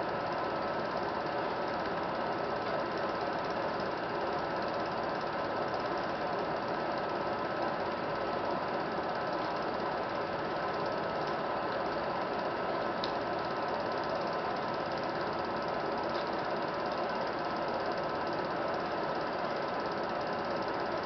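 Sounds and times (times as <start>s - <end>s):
film projector clatter: 0.0s - 21.0s
thin steady whine: 0.0s - 21.0s.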